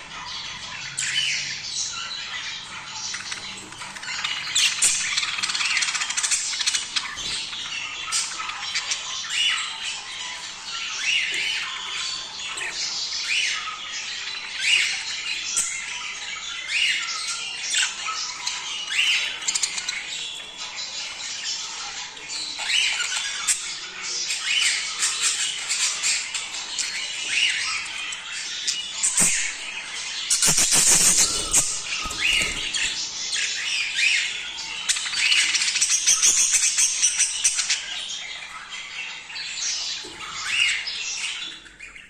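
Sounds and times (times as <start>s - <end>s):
parrots chattering and squawking: 0.0s - 42.0s.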